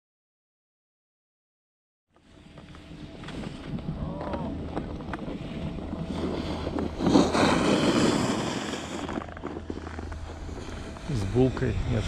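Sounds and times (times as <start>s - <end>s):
skis scraping over snow: 2.2s - 12.0s.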